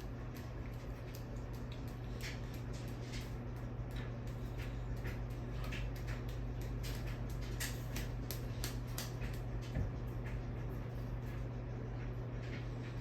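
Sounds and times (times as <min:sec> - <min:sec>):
ceiling fan motor hum: 0:00.0 - 0:13.0
light ticking of fan: 0:00.0 - 0:13.0.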